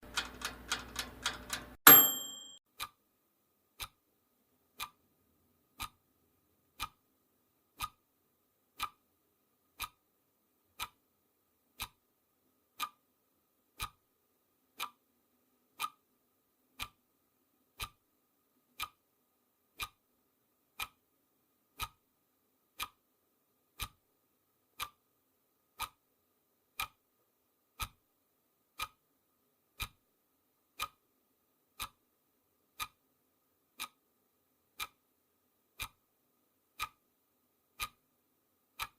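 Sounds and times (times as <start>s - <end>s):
clock ticking: 0.0s - 3.0s, 3.8s - 19.1s, 19.7s - 23.1s, 23.7s - 25.1s, 25.7s - 27.1s, 27.7s - 38.9s.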